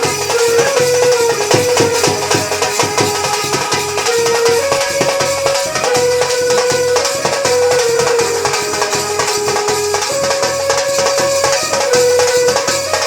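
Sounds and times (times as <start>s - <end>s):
drums beating steady rhythm: 0.0s - 13.0s
held melody line: 0.0s - 13.0s.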